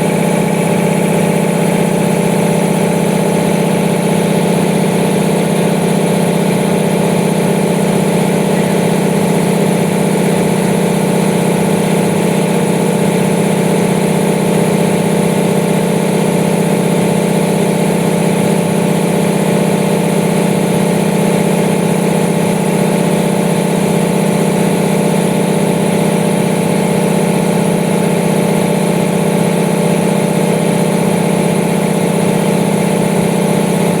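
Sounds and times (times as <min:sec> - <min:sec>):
air compressor running: 0:00.0 - 0:34.0.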